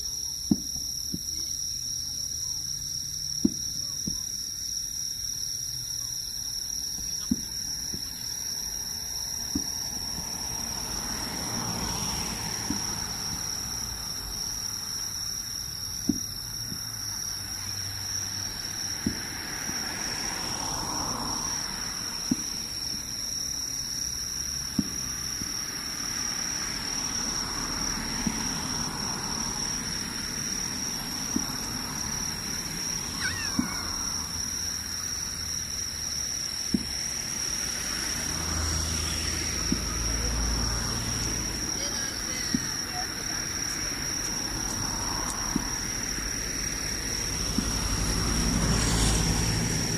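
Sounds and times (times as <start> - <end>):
crickets trilling: 0.0 - 49.9
distant fireworks bursting: 6.7 - 26.3, 27.0 - 38.6, 39.2 - 49.4.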